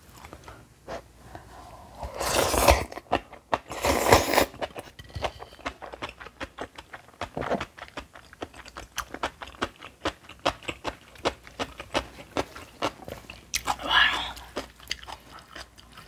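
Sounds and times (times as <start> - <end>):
crunchy chewing: 2.5 - 16.0.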